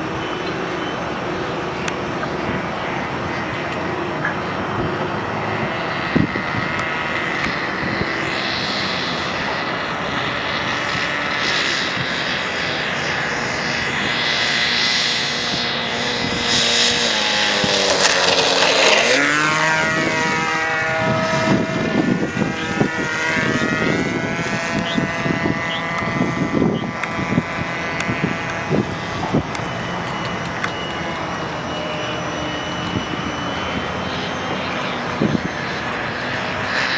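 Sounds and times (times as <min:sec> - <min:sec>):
model aeroplane engine running: 0:00.0 - 0:36.9.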